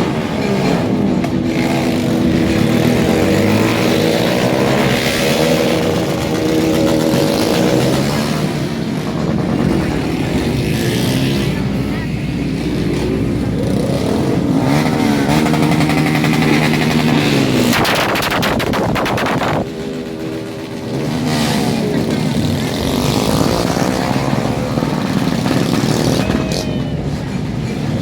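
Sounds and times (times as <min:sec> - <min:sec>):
engine stuttering on rev limiter: 0:00.0 - 0:28.0
motorcycle engines revving: 0:00.0 - 0:28.0.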